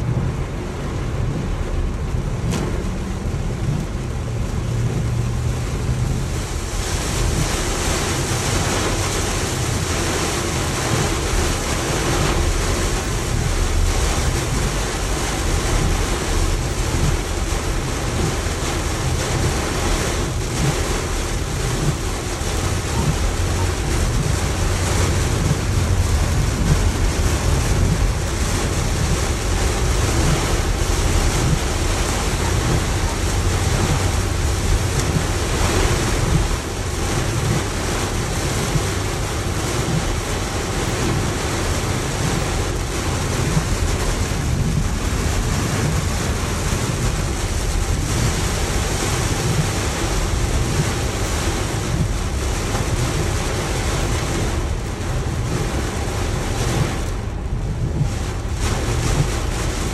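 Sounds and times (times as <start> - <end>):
low rumble: 0.0 - 59.9
rain on car roof: 0.0 - 59.9.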